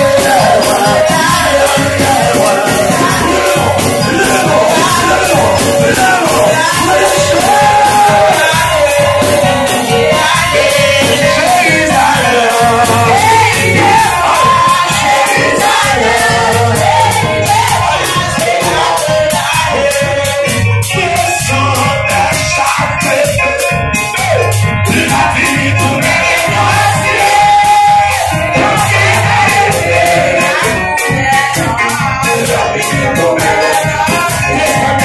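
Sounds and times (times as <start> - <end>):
congregation singing: 0.0 - 35.0
man singing into a microphone: 0.0 - 35.0
steady music beat: 0.0 - 35.0.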